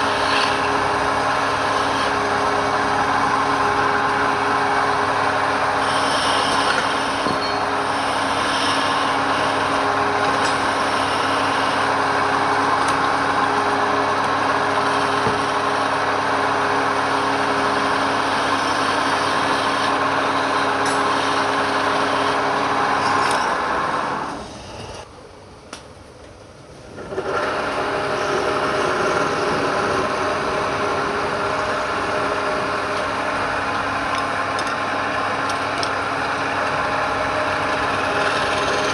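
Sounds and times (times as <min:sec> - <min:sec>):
woodturning lathe humming: 0:00.0 - 0:25.0, 0:26.9 - 0:38.9.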